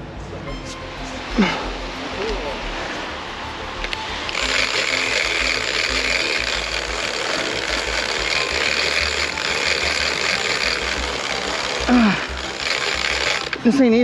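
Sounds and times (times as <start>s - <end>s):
fishing reel buzzing: 2.5s - 14.0s.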